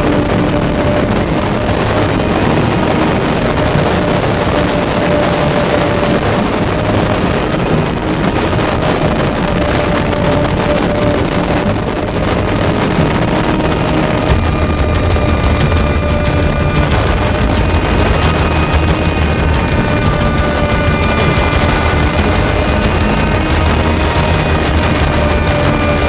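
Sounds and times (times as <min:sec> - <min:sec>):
outboard motor running: 0:00.0 - 0:26.0
steady whine: 0:00.0 - 0:26.0.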